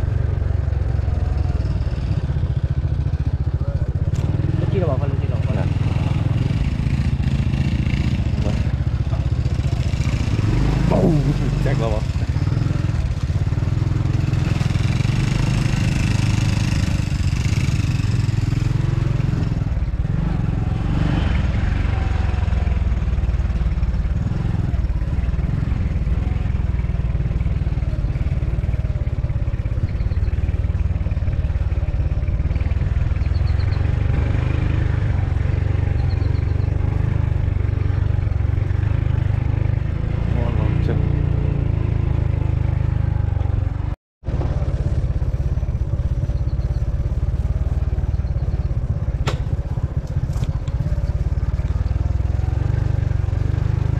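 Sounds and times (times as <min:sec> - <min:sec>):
motorbike engine running: 0:00.0 - 0:53.9.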